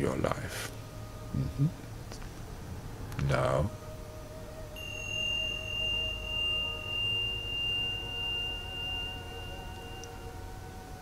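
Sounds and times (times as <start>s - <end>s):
high pure ringing tone: 0.0s - 11.0s
quiet wavering tones: 0.0s - 11.0s
soft low hum: 0.0s - 11.0s.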